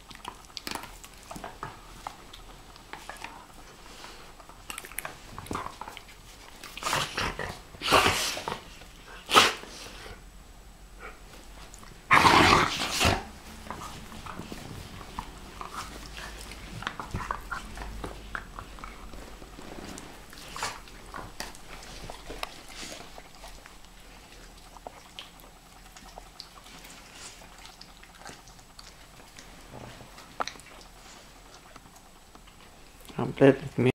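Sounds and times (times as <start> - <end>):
dogs play-fighting: 0.0 - 10.2, 11.0 - 33.0
dogs rustling and mouthing: 0.0 - 10.2, 11.2 - 33.9.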